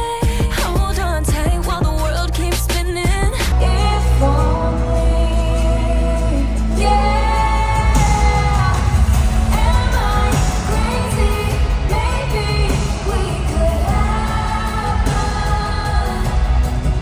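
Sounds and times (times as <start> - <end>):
pop song with sung vocals: 0.0 - 17.0.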